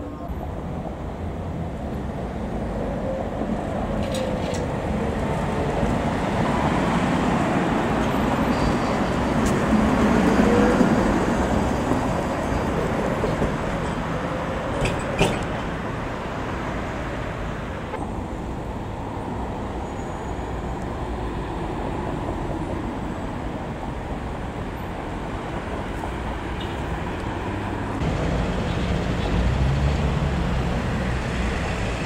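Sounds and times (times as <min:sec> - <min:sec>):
vehicle running noise: 0:00.0 - 0:32.0.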